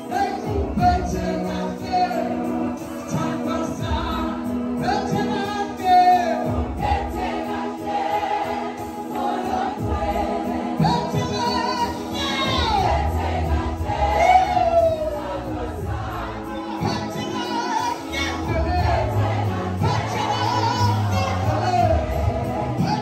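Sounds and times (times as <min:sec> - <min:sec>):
choir singing: 0:00.0 - 0:23.0
sustained instrumental backing: 0:00.0 - 0:23.0.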